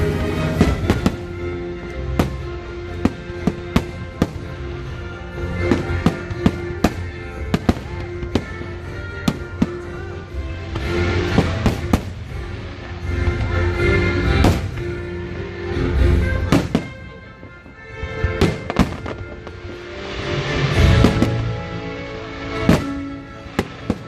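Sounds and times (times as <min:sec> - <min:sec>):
fireworks bursting: 0:00.0 - 0:24.0
fireworks crackle: 0:00.0 - 0:24.0
music playing: 0:00.0 - 0:24.0.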